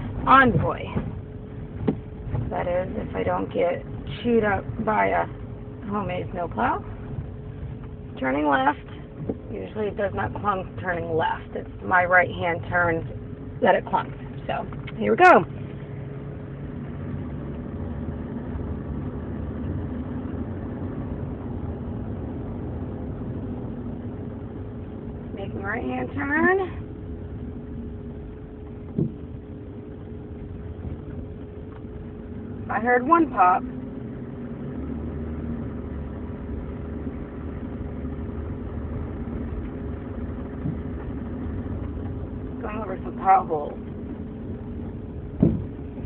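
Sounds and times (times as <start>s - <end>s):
engine hum: 0.0s - 46.0s
tyre and road noise: 0.0s - 46.0s.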